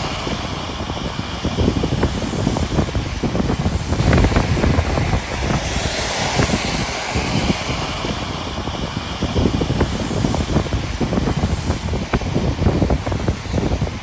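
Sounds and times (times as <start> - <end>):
car driving rumble: 0.0 - 14.0
tyres hissing on wet tarmac: 0.0 - 14.0
wind buffeting microphone: 0.0 - 14.0.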